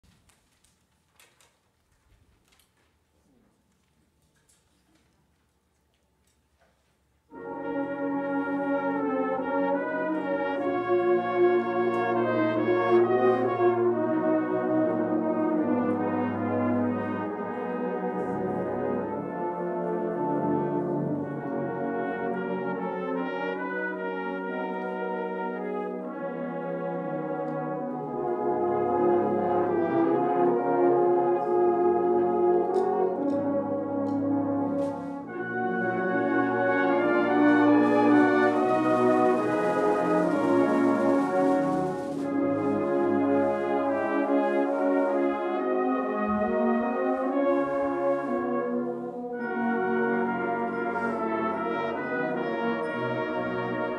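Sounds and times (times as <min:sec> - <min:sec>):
brass band playing a hymn: 0:07.3 - 0:53.9.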